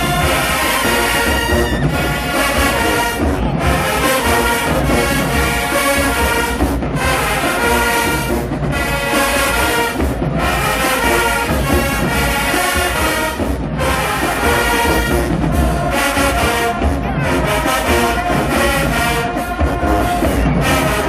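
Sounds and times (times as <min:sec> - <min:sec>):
marching band brass chords: 0:00.0 - 0:21.0.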